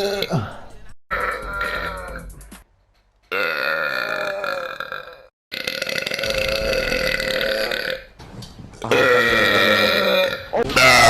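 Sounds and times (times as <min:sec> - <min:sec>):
man burping: 0:00.0 - 0:02.1, 0:03.3 - 0:08.1, 0:08.8 - 0:11.0.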